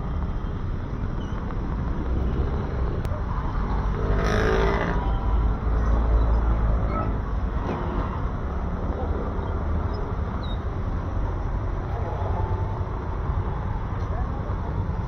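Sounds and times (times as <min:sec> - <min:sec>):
passing vehicles rumble: 0:00.0 - 0:15.0.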